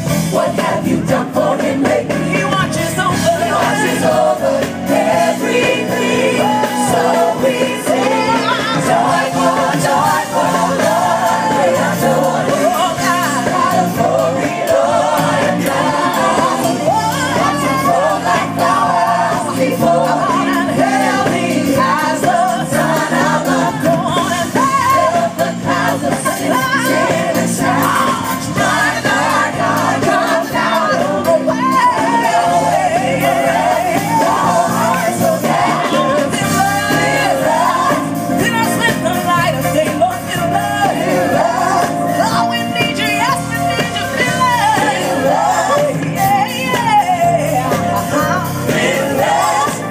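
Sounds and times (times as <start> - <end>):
gospel group singing: 0.0 - 49.9
live band with drum kit: 0.0 - 49.9.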